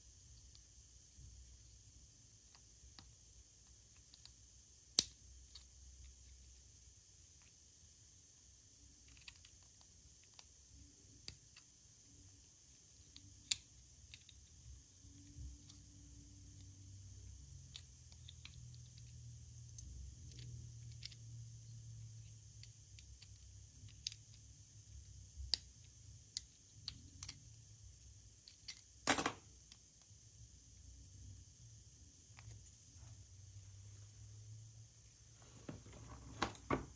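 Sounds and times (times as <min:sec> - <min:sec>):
faint hiss and low hum: 0:00.0 - 0:36.9.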